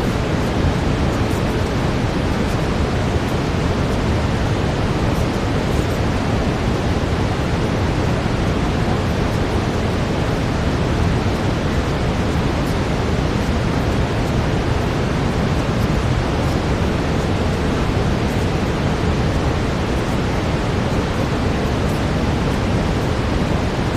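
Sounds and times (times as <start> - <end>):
brown noise: 0.0 - 23.9.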